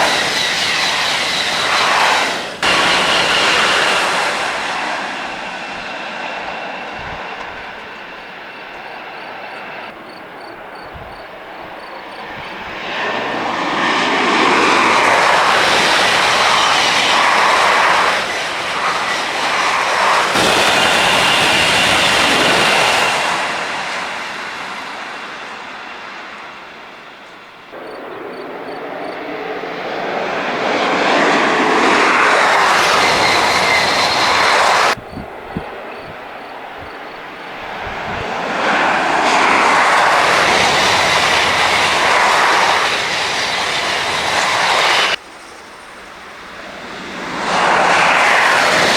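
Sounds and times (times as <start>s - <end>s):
high-speed train rushing past: 0.0s - 48.9s.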